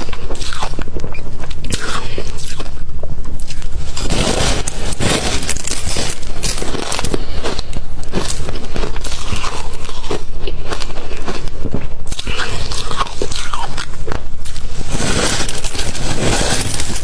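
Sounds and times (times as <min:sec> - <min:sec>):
chewing crunchy ice: 0:00.0 - 0:17.0.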